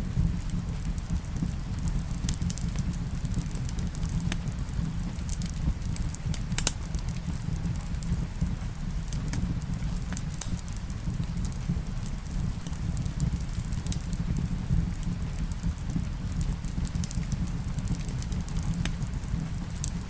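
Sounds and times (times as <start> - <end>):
low fire rumble: 0.0 - 20.0
wood fire crackling: 0.0 - 20.0.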